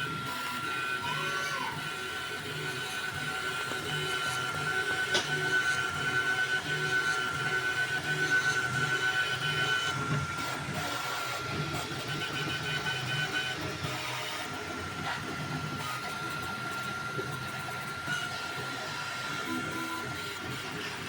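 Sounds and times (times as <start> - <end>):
printer stepper motors whining: 0.0 - 21.0.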